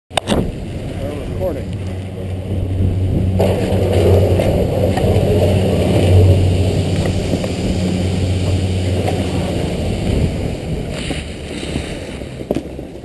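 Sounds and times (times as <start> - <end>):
steady low hum: 0.1 - 13.0
wind on camera: 0.1 - 13.0
skis scraping over packed snow: 0.2 - 13.0.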